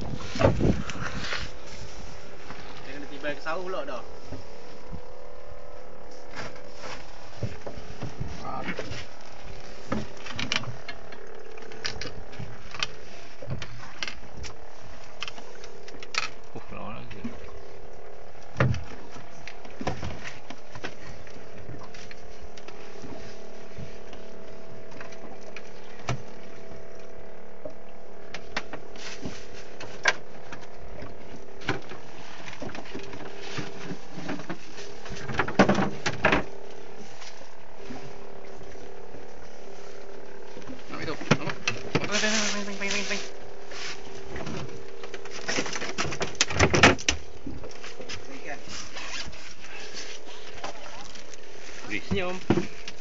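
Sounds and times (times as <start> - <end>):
boat engine idling: 0.0 - 53.0.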